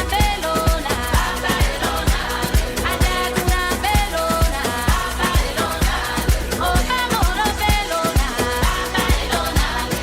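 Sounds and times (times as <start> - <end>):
kick drum: 0.0 - 9.9.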